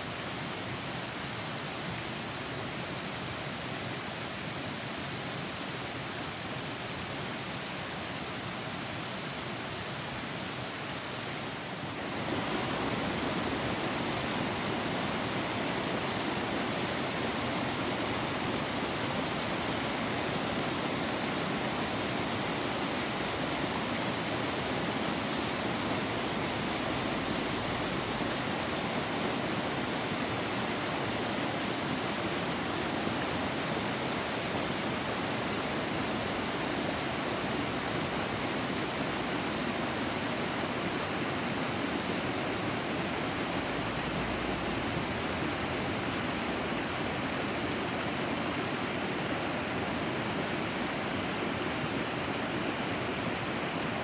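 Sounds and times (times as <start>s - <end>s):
creek rushing over rocks: 1.9s - 54.0s.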